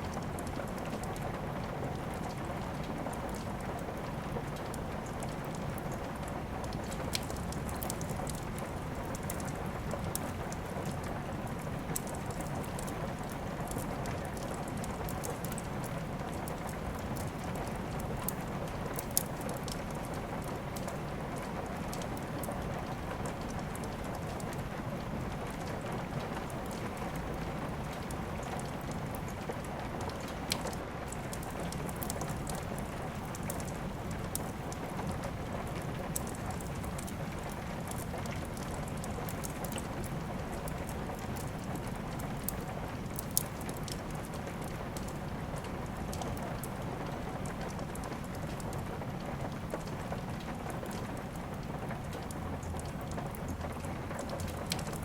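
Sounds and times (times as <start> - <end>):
steady rain: 0.0 - 55.0
wood fire crackling: 0.1 - 27.0, 27.6 - 55.0.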